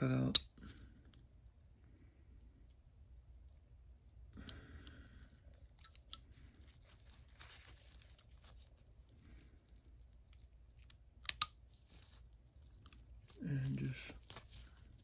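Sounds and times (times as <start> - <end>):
gloves rustling: 0.7 - 15.0.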